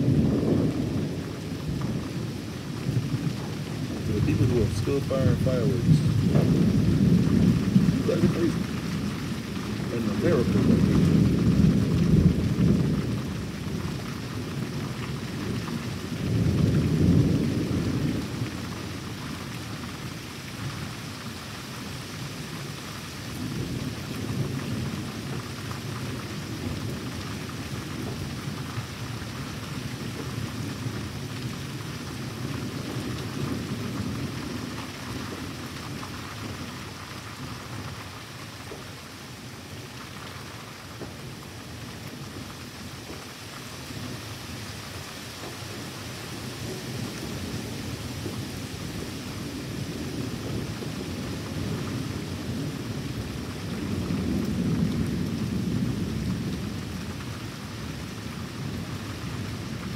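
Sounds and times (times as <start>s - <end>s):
rolling thunder: 0.0s - 21.0s, 22.1s - 38.0s, 45.4s - 59.9s
heavy rain: 0.0s - 59.9s.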